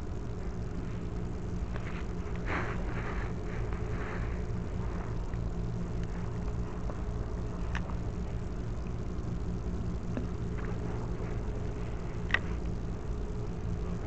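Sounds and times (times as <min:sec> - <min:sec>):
engine idling hum: 0:00.0 - 0:14.0.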